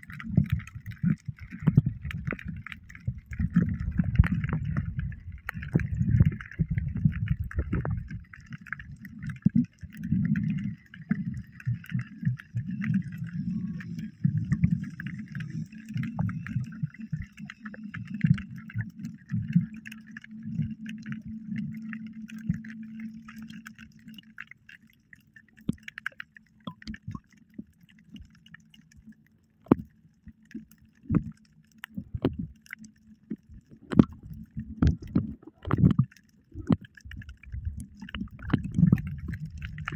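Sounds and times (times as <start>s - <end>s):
muffled water gurgling and sloshing: 0.0s - 39.9s.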